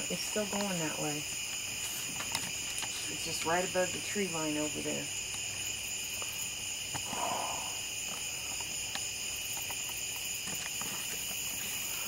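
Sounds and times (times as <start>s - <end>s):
crickets and insects trilling: 0.0s - 12.0s.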